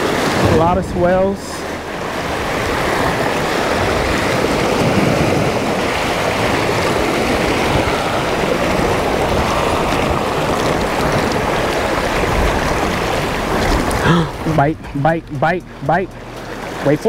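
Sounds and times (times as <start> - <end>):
wind on microphone: 0.0 - 16.8
waves splashing against rocks: 0.0 - 17.0.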